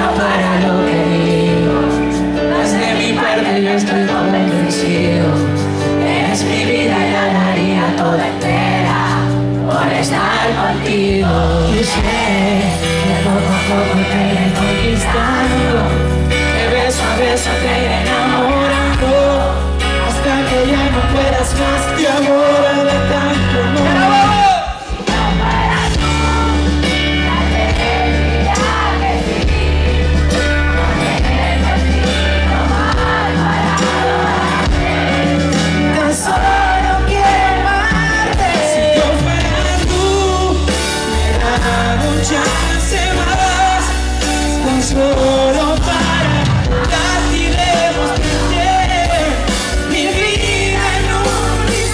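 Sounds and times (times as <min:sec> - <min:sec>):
live band playing pop song: 0:00.0 - 0:51.9
person singing: 0:00.0 - 0:51.9.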